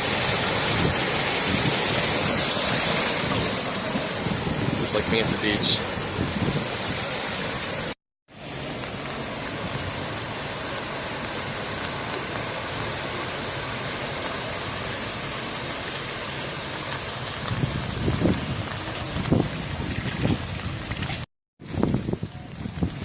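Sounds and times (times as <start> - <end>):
heavy rain on water: 0.0 - 23.0.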